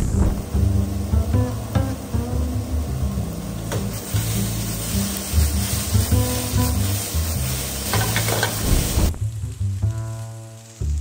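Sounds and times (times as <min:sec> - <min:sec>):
okra sizzling in oil: 0:00.0 - 0:11.0
background music: 0:00.2 - 0:11.0.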